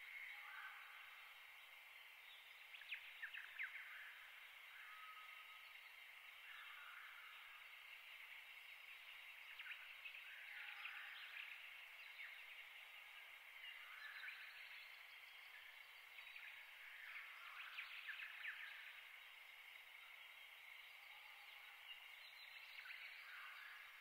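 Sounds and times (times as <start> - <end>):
distant small birds chirping: 0.0 - 24.0
steady high hiss: 0.0 - 24.0.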